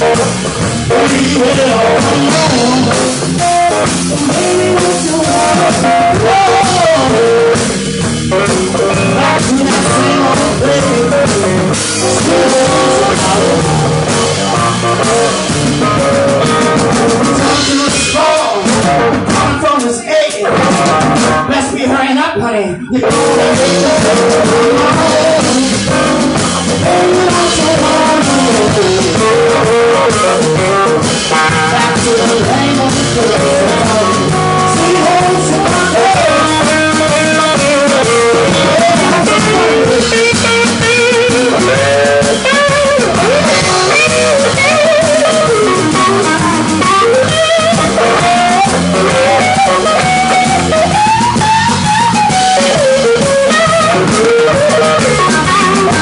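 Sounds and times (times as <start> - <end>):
bending sliding lead guitar: 0.0 - 56.0
blues band playing: 0.0 - 56.0.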